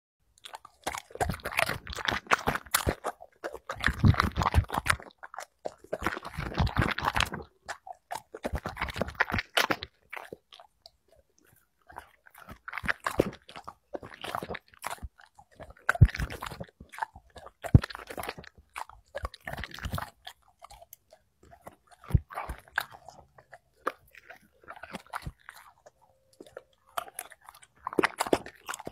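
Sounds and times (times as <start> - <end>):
dog chewing and crunching: 0.3 - 28.9
teeth clicking: 0.4 - 28.9.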